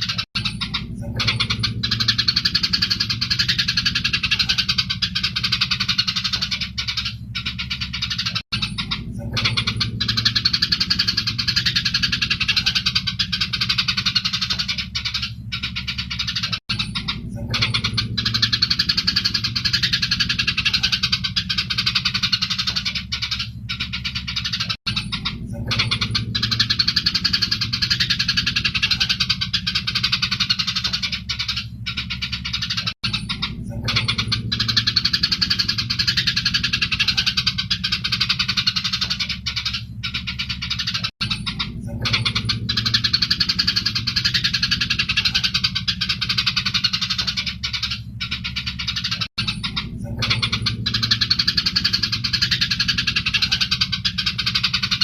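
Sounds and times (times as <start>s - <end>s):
sparrows chattering: 0.0s - 55.0s
steady low hum: 0.0s - 55.0s.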